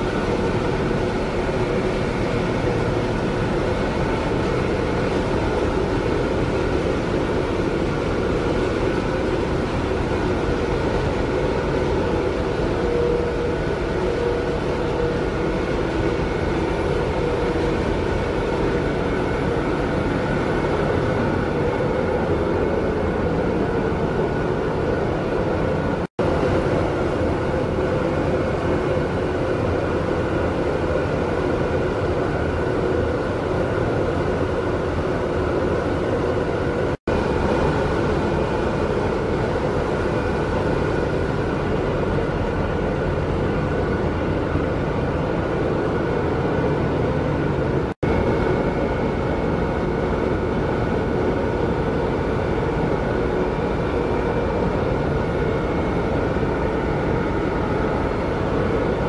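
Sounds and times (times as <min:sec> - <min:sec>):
ship engine drone: 0:00.0 - 0:59.0.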